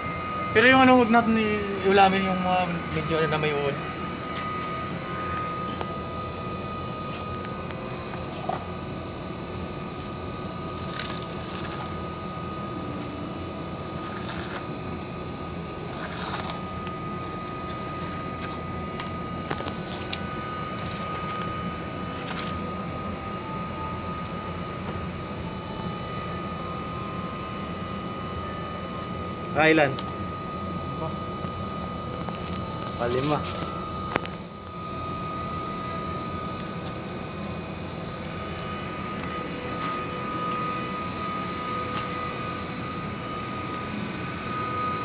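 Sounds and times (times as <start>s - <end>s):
mechanical drone with high whine: 0.0s - 45.0s.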